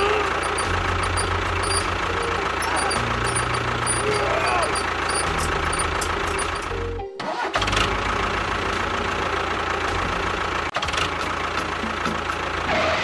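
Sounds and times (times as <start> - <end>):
vehicle engine running: 0.0 - 7.0, 7.6 - 12.7.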